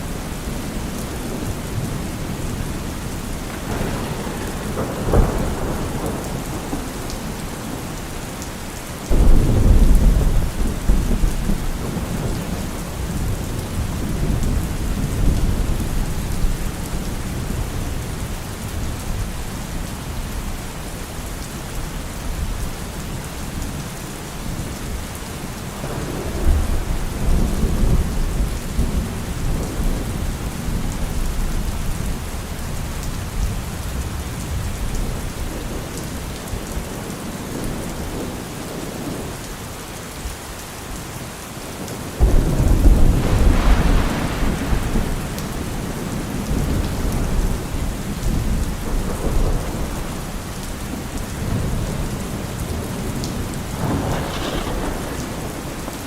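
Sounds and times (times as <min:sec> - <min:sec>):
thunder rumbling: 0:00.0 - 0:20.6, 0:25.7 - 0:39.3, 0:42.2 - 0:56.0
rain falling through trees: 0:00.0 - 0:56.0.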